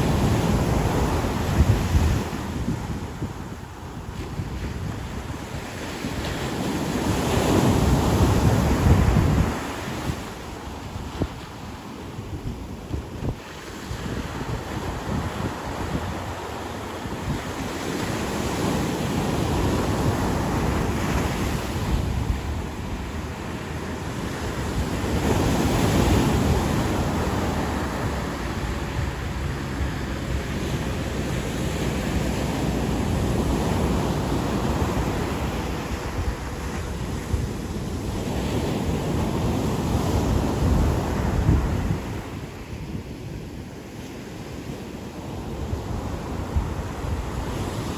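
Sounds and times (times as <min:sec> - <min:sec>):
ocean surf washing onto beach: 0:00.0 - 0:47.9
wind buffeting microphone: 0:00.0 - 0:47.9.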